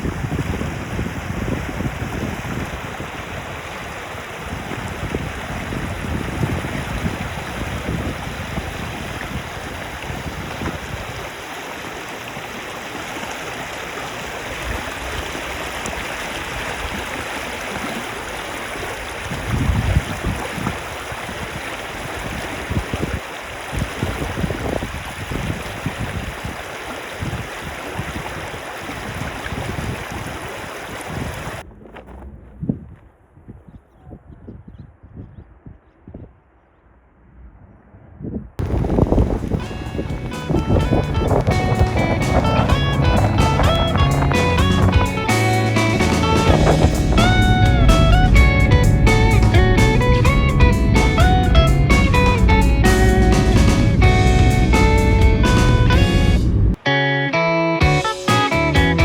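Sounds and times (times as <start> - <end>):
river water rushing: 0.0 - 31.6, 38.6 - 56.8
wind buffeting microphone: 0.0 - 56.8.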